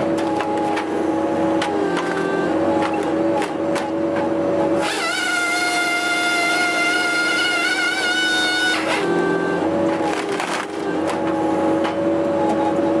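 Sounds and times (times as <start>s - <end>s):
high machine whine: 0.0s - 13.0s
machine drone: 0.0s - 13.0s.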